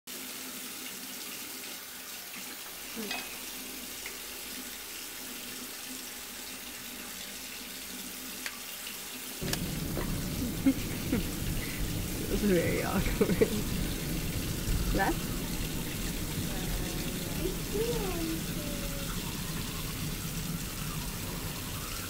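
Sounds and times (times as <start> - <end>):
tap water running into sink: 0.1 - 22.0.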